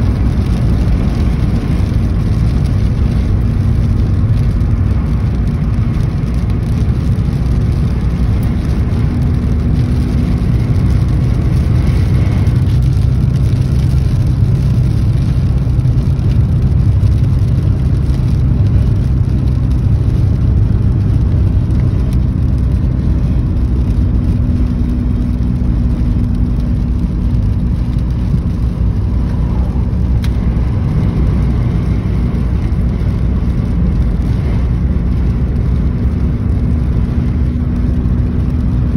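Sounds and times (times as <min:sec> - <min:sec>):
car engine and tyre drone: 0:00.0 - 0:38.9.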